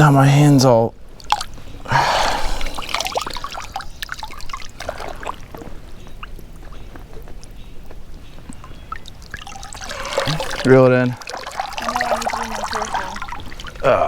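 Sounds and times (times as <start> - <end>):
creek water splashing: 1.0 - 14.0
water trickling and dripping: 1.0 - 14.0.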